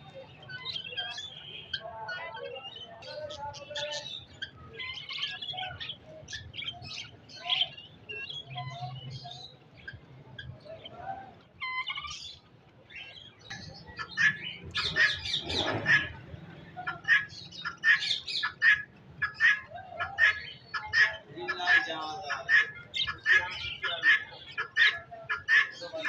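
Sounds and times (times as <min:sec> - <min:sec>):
budgerigars chirping and chattering: 0:00.2 - 0:10.9, 0:11.6 - 0:26.0.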